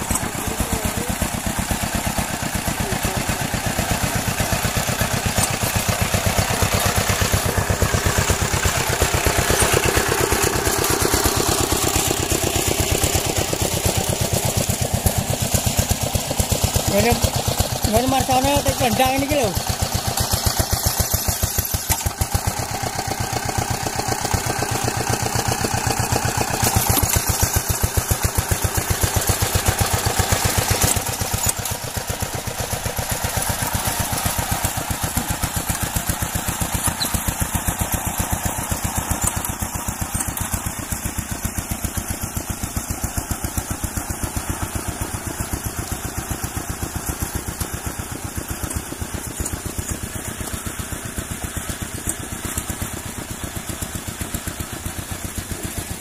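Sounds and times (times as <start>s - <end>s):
engine running with rapid pulsing: 0.0s - 56.0s.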